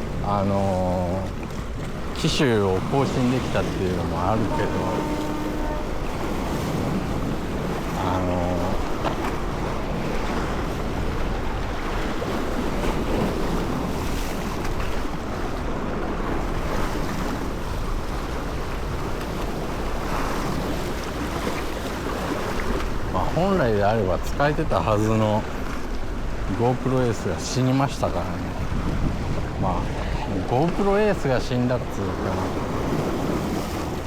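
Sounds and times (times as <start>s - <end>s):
wind buffeting microphone: 0.0s - 26.8s, 27.8s - 34.0s
water splashing around boat: 0.0s - 34.0s.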